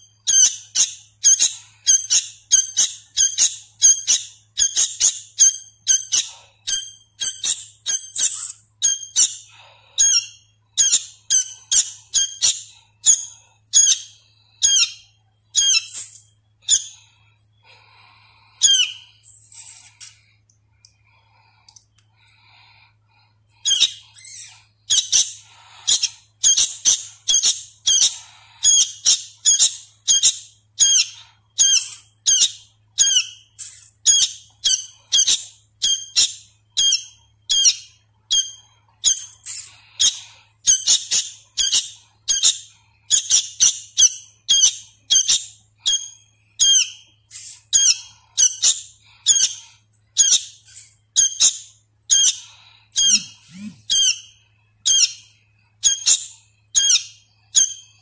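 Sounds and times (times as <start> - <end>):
fledgling bird chirping: 0.0 - 20.3, 23.5 - 58.0.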